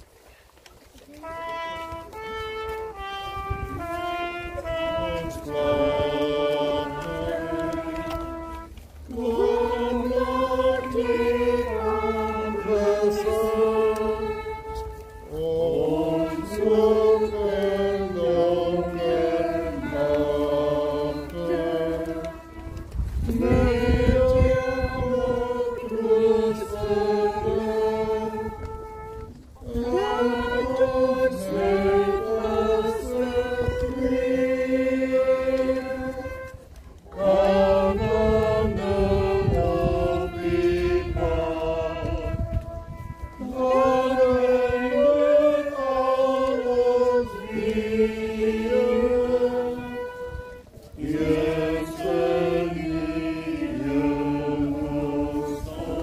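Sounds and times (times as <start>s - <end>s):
congregation singing a hymn: 1.2s - 56.0s.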